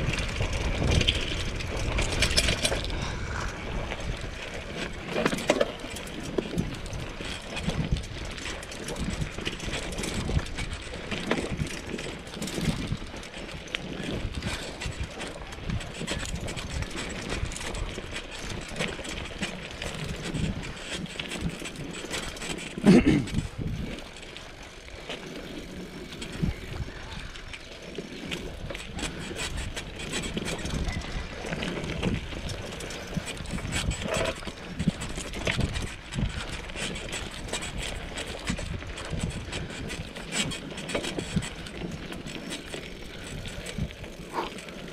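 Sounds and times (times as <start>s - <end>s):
mountain bike rattling over rocks: 0.0s - 44.9s.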